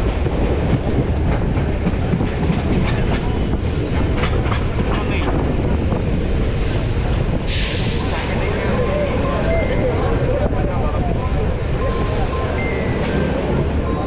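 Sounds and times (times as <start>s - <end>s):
clickety-clack over rail joints: 0.0s - 14.0s
train wheels rumbling on rails: 0.0s - 14.0s.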